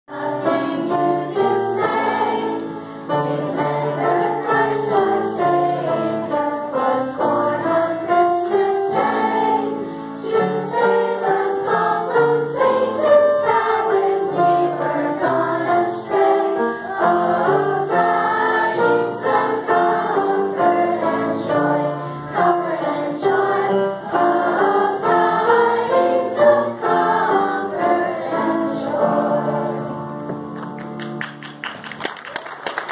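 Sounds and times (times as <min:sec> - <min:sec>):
choir of children and women singing: 0:00.1 - 0:30.4
instrumental accompaniment: 0:00.1 - 0:31.9.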